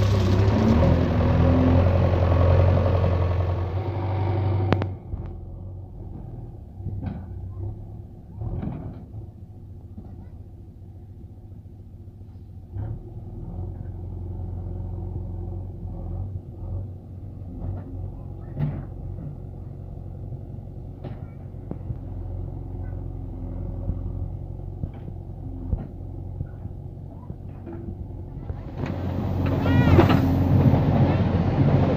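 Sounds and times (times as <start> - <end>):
diesel engine rumbling: 0.0 - 31.9.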